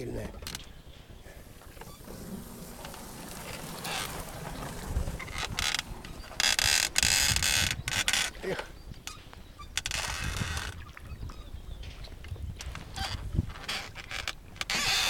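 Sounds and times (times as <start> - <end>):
oars creaking in oarlocks: 0.0 - 15.0.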